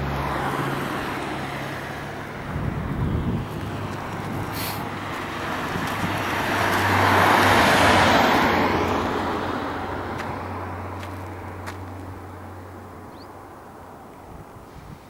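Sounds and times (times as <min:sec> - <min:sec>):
car passing by: 0:00.0 - 0:15.0.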